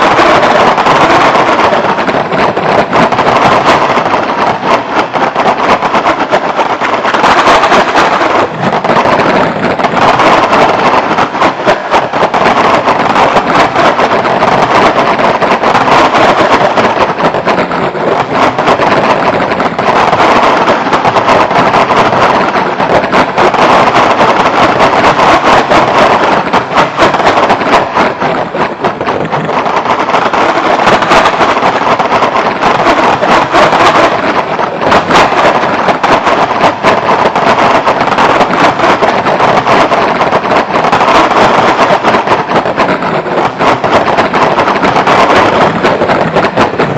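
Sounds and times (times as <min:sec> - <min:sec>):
rapid clicks: 0:00.0 - 0:46.9.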